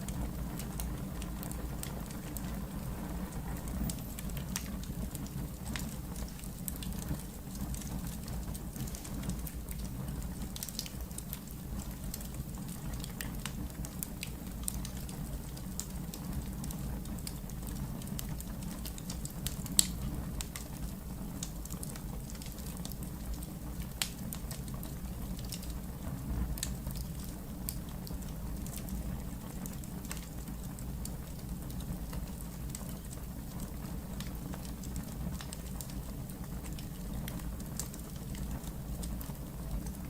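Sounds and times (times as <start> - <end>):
fire snaps and pops: 0.0 - 40.0
low rumble of flames: 0.0 - 40.0
wood fire crackling: 0.0 - 40.0.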